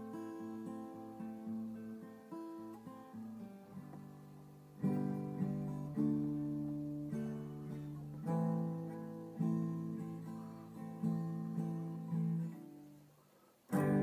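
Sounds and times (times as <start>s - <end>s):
acoustic guitar picked and strummed: 0.0s - 14.0s.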